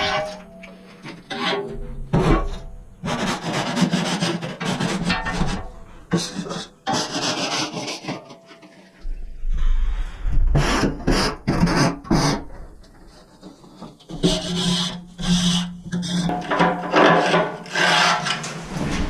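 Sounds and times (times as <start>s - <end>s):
scraping strokes on metal walls: 0.0s - 9.0s, 10.5s - 19.0s.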